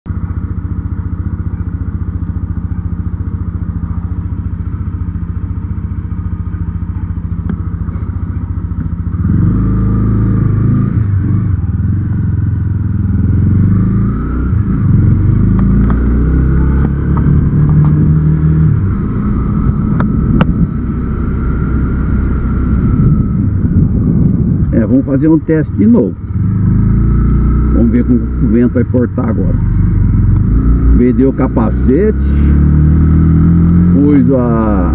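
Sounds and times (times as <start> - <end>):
motorcycle engine: 0.1 - 34.9.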